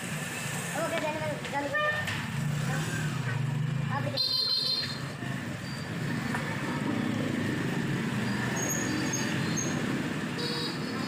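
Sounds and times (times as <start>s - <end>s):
passing traffic and motorbikes: 0.0s - 11.0s.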